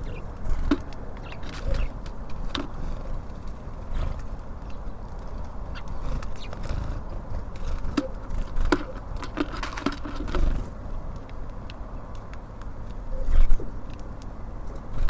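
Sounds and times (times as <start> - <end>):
birds pecking at feeder: 0.0 - 15.0
low rumble of traffic: 0.0 - 15.0.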